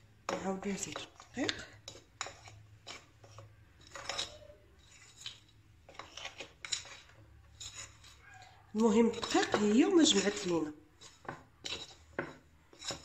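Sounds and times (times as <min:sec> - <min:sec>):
fork scraping glass bowl: 0:00.3 - 0:13.0.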